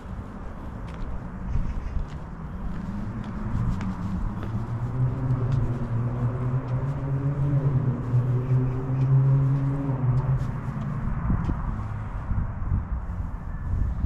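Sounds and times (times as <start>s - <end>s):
footsteps on trail: 0.0s - 12.0s
vehicle engine humming: 0.0s - 14.0s.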